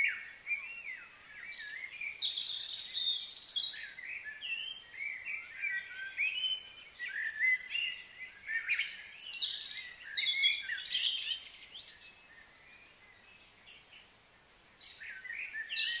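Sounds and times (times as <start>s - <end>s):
wild birds singing and calling: 0.0s - 16.0s.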